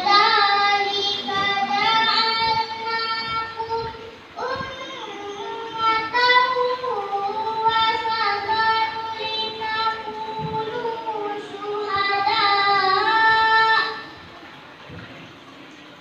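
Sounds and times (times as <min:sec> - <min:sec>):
boy chanting melodic recitation: 0:00.0 - 0:14.2.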